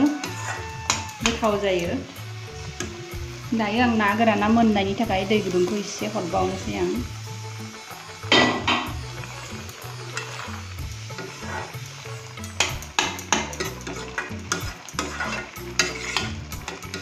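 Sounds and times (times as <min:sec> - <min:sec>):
curry bubbling and sizzling: 0:00.0 - 0:17.0
metal spatula scraping wok: 0:00.0 - 0:17.0.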